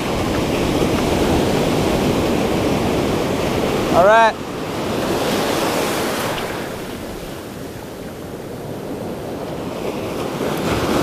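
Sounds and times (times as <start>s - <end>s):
ocean surf washing in: 0.0s - 11.0s
wind buffeting microphone: 0.0s - 11.0s.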